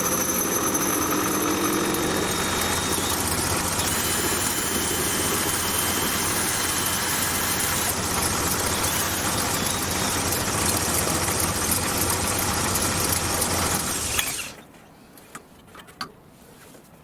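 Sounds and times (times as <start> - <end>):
metal lathe cutting: 0.0 - 14.6.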